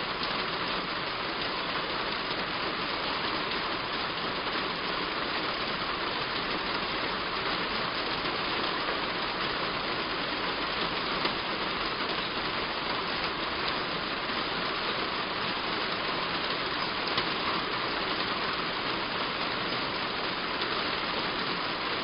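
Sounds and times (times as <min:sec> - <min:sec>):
heavy rain on a roof: 0:00.0 - 0:22.0.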